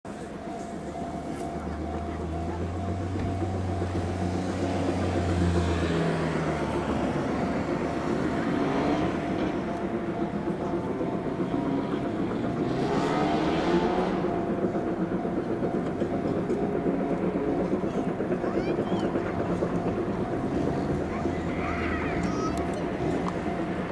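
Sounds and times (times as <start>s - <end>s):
road vehicles: 0.0s - 23.9s
steam locomotive exhaust: 0.1s - 23.9s.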